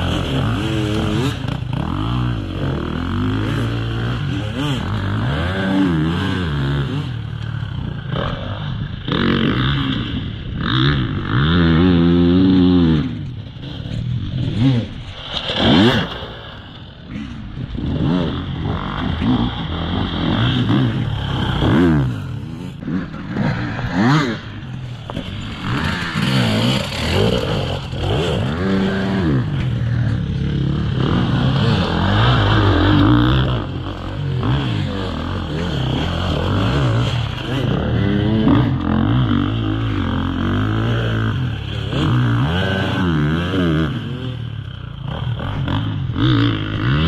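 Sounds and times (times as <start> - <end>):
dirt bike engines revving: 0.0 - 47.0.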